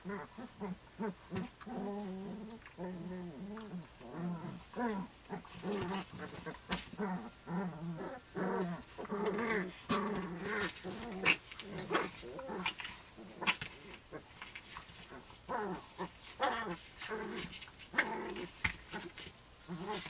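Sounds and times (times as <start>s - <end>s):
puppies growling: 0.0s - 20.0s.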